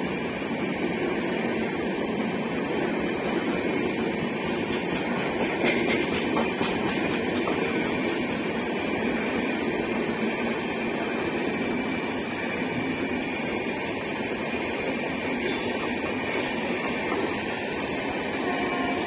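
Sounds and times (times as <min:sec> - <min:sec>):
passenger coaches rumbling past: 0:00.0 - 0:19.0.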